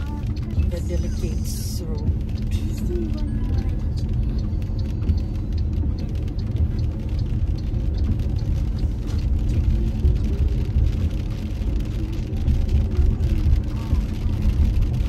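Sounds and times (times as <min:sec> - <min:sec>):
car engine and tyres rumbling: 0:00.0 - 0:15.0
faint ticks: 0:00.0 - 0:15.0.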